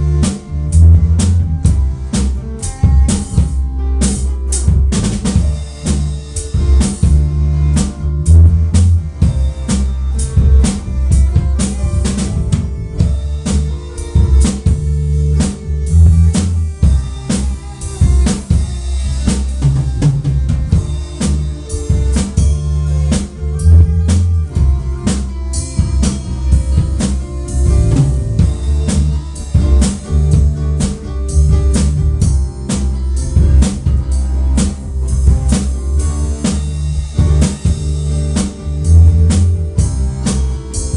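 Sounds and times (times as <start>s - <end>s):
drum kit playing a beat: 0.0s - 40.9s
low bass notes: 0.0s - 40.9s.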